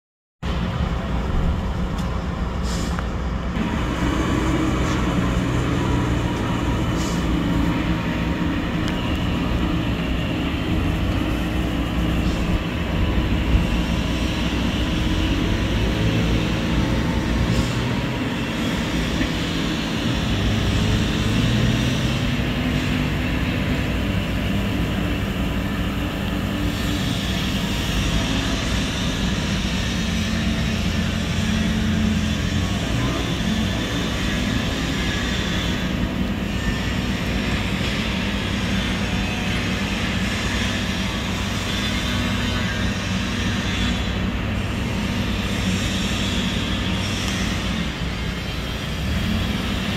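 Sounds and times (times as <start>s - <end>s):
diesel truck engine running: 0.5s - 49.9s
water cannon spraying hiss: 2.5s - 49.9s.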